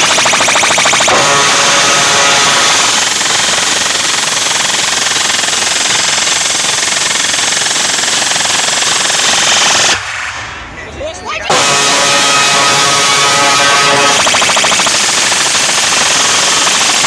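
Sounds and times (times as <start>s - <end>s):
distorted loud sound system roar: 0.0s - 17.0s.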